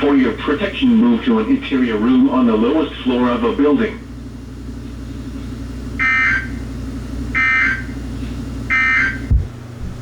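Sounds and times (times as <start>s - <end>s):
radio hum: 0.0s - 9.6s.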